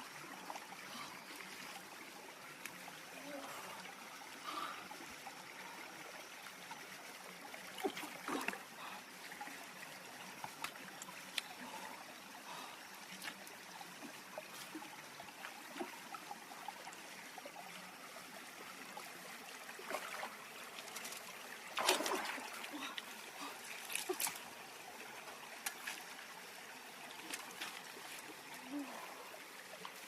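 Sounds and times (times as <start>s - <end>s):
river water trickling: 0.0s - 30.0s.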